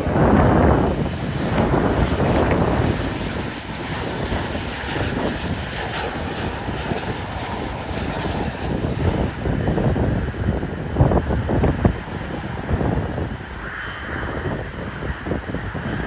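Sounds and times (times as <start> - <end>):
aircraft engine noise: 0.0 - 16.0
wind buffeting microphone: 0.0 - 16.0.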